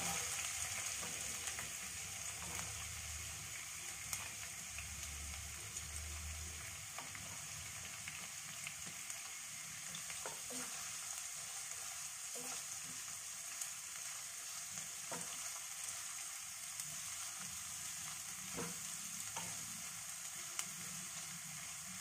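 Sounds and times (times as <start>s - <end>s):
garlic and onion sizzling in oil: 0.0s - 22.0s.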